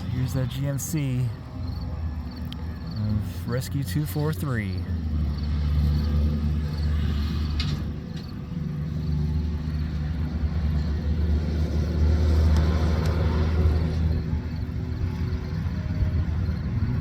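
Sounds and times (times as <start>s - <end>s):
fire truck engine rumbling: 0.0s - 17.0s.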